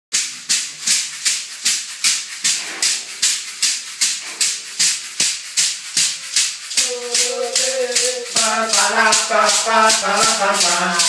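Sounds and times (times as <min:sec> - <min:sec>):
shaker playing a beat: 0:00.1 - 0:11.0.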